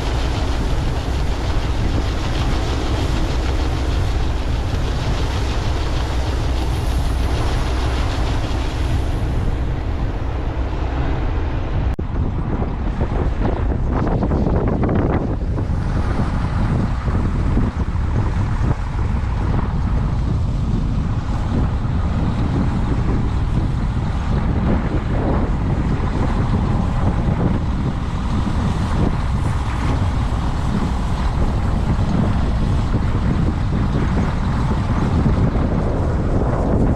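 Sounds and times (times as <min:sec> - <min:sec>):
heavy machinery running: 0:00.0 - 0:36.9
wind buffeting microphone: 0:00.0 - 0:36.9.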